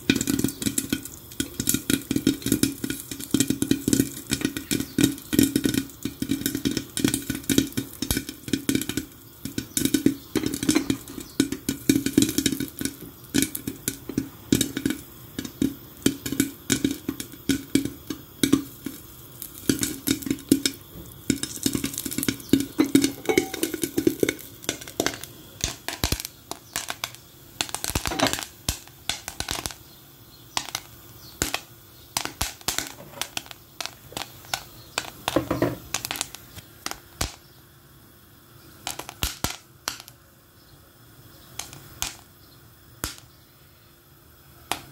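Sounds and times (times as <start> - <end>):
popcorn popping in covered pot: 0.0 - 44.9.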